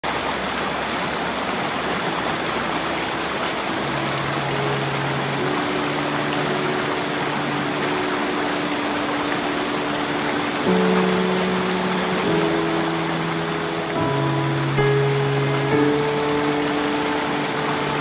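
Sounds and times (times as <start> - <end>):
stream rushing over stones: 0.0 - 18.0.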